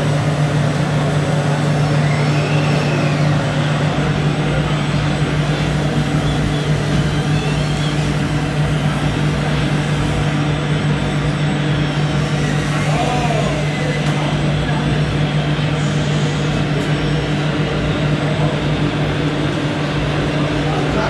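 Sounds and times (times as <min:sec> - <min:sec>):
dense background din: 0:00.0 - 0:21.0
low engine-like drone: 0:00.0 - 0:21.0.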